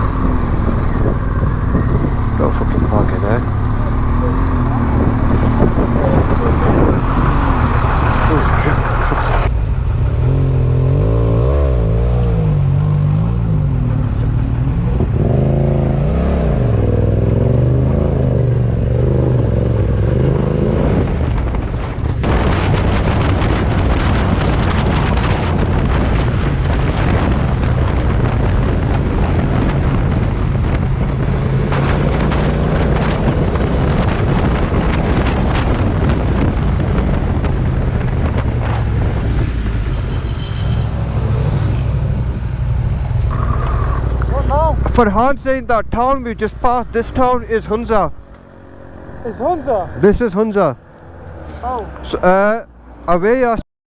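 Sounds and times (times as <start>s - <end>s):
motorcycle engine: 0.0s - 53.0s
wind and road noise: 0.0s - 53.6s.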